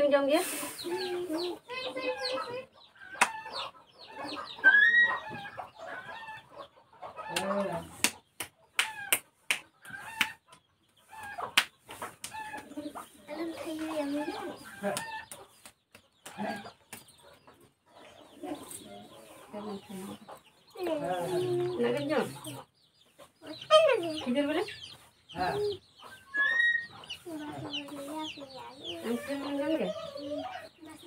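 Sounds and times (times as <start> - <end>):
clucking bird calls: 0.0 - 31.0
voices: 0.0 - 31.0.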